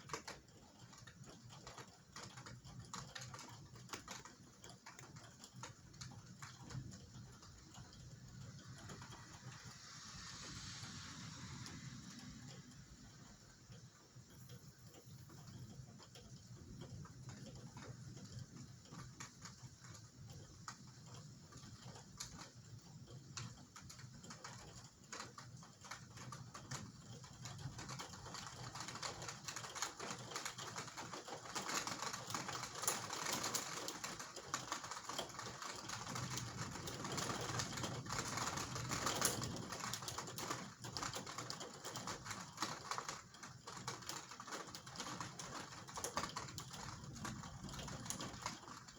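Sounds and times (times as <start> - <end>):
rain pattering on hard surface: 0.0 - 48.9.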